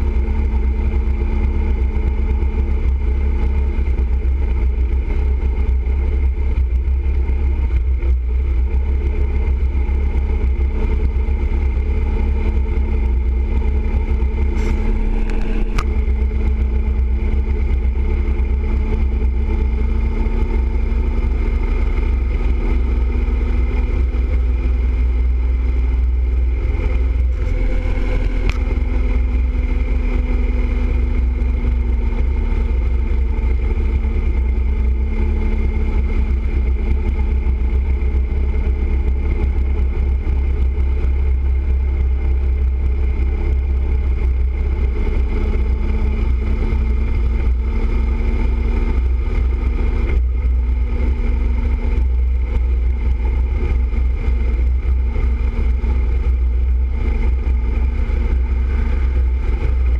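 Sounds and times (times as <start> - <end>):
motorcycle engine drone: 0.0 - 59.9.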